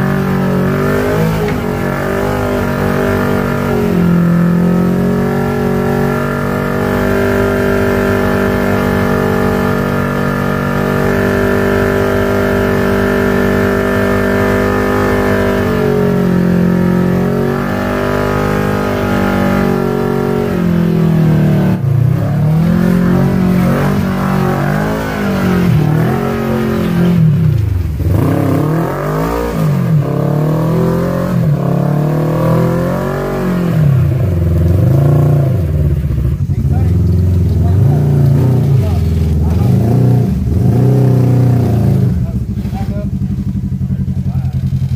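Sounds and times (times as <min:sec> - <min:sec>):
utv engine revving under load: 0:00.0 - 0:44.9.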